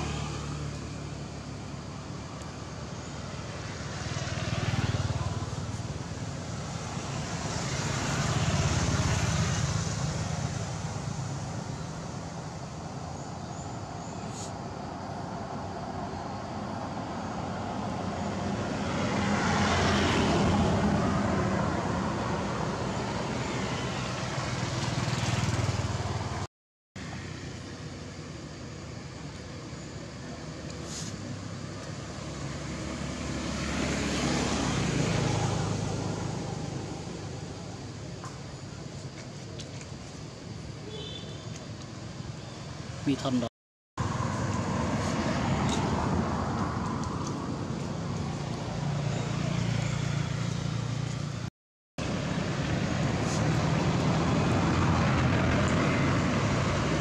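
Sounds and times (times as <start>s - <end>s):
motorbikes passing: 0.0s - 12.8s, 15.3s - 26.5s, 30.4s - 39.2s, 41.9s - 57.0s
cars passing: 0.0s - 26.5s, 30.4s - 39.3s, 41.8s - 57.0s.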